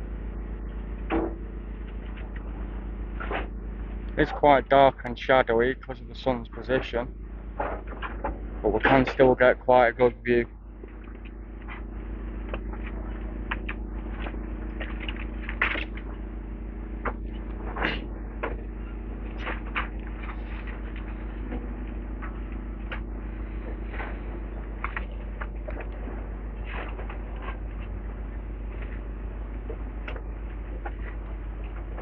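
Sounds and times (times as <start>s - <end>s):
excavator engine hum: 0.0s - 32.0s.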